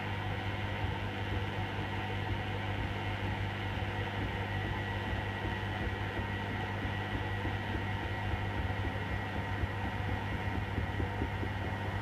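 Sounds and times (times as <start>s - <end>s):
washer motor hum: 0.0s - 12.0s.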